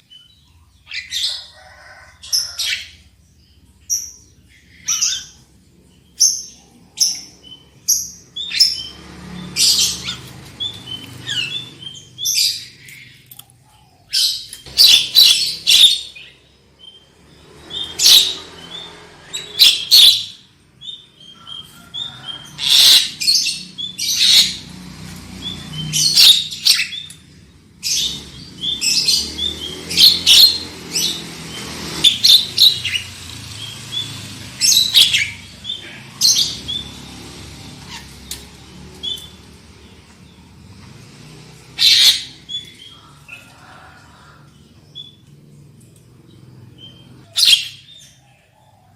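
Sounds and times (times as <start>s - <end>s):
bird harsh calls and whistles: 0.0s - 45.4s, 46.3s - 48.9s.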